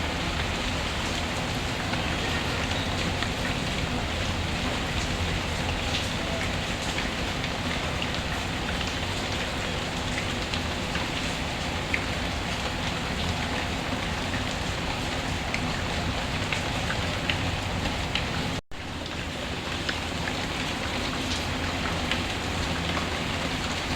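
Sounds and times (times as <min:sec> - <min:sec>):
heavy rain falling: 0:00.0 - 0:23.9.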